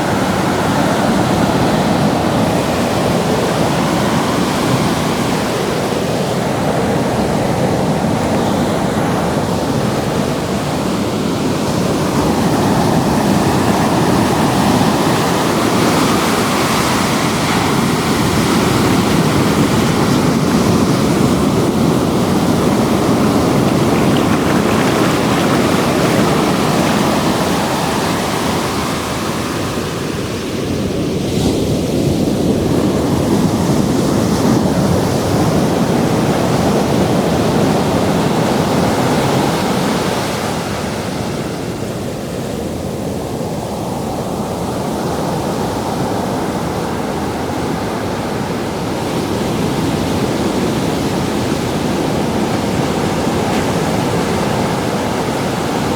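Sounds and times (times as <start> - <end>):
ocean surf breaking: 0.0 - 55.9.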